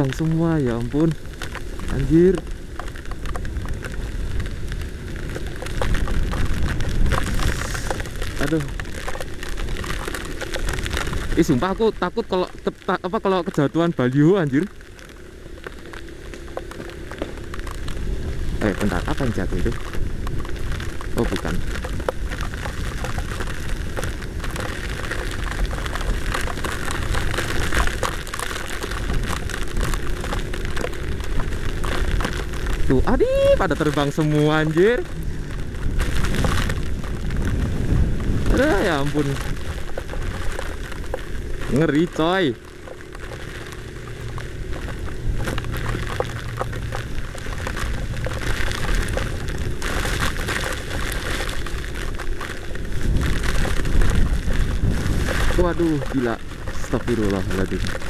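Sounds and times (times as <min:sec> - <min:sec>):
heavy rain pelting: 0:00.0 - 0:58.0
wind rumble on microphone: 0:00.0 - 0:58.0.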